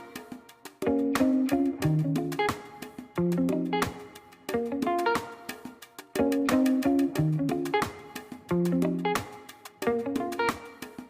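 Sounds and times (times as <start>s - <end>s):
guitar playing plucked notes: 0.0s - 11.0s.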